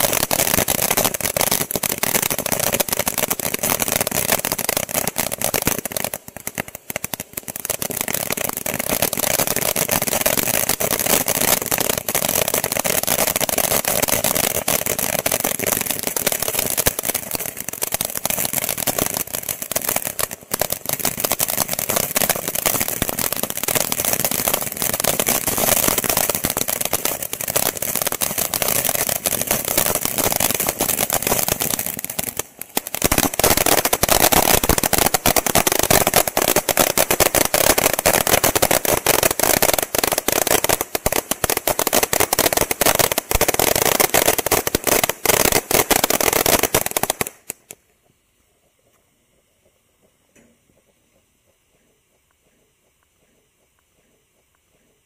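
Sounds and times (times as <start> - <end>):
firework fountain crackling: 0.0 - 49.8.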